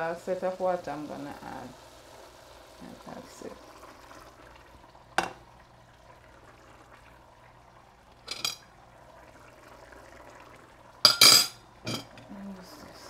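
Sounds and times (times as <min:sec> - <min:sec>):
pot simmering with bubbling: 0:00.0 - 0:13.0.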